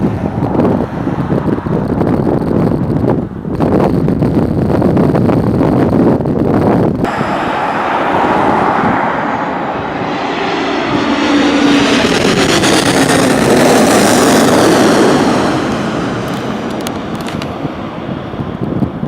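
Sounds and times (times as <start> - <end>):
jet engines passing close: 0.0 - 19.0.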